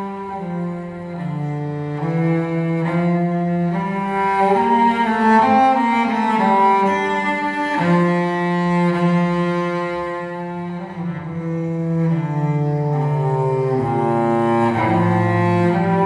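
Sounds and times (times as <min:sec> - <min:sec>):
solo cello music: 0:00.0 - 0:16.0.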